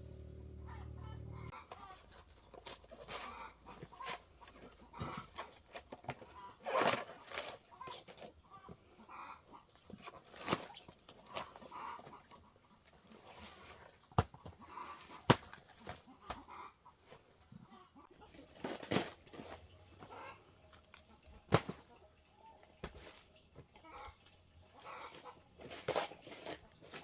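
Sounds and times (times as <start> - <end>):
chickens clucking: 0.3 - 27.0.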